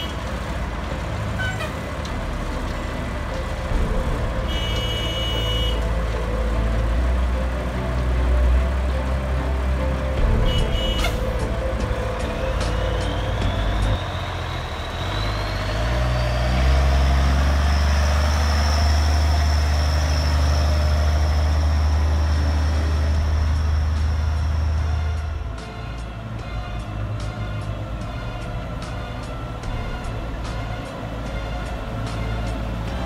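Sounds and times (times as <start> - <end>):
diesel truck driving past: 0.0 - 33.0.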